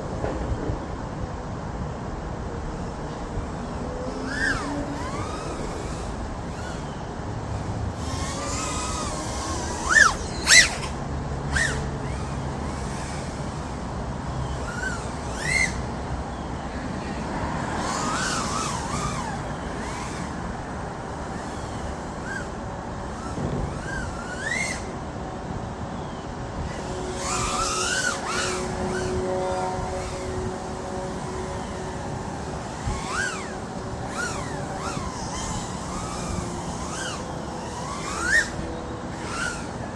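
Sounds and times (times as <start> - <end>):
drone motors whining: 2.0 - 39.9.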